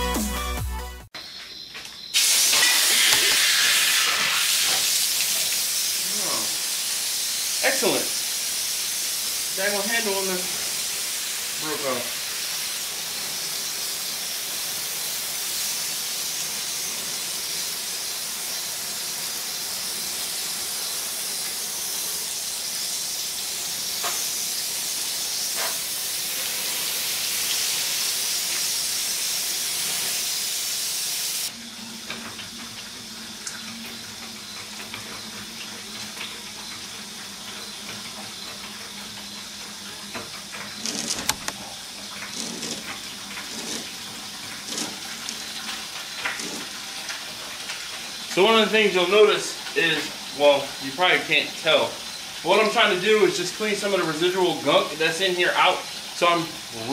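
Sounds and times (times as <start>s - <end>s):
water hissing into steam: 2.1s - 56.9s.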